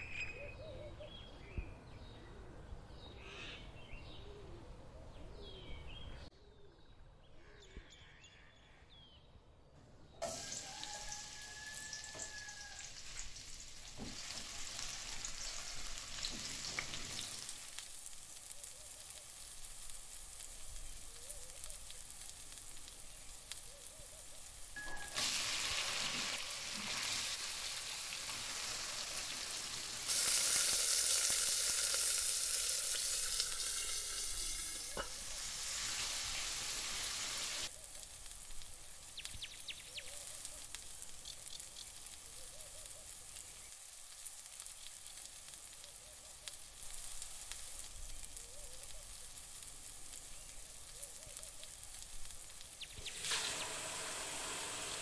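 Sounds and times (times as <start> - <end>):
food sizzling in hot oil: 10.1 - 55.0.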